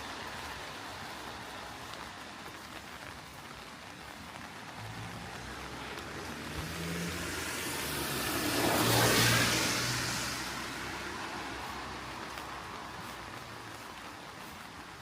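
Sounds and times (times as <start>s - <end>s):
car passing on wet road: 0.0s - 15.0s.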